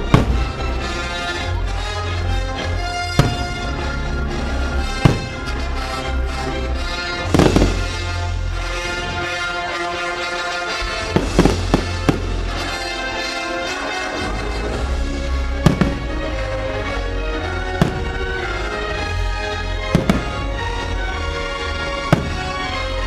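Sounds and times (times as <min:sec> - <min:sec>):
fireworks bursting with sharp bangs: 0:00.0 - 0:01.4, 0:02.7 - 0:23.0
show music on loudspeakers: 0:00.0 - 0:23.0.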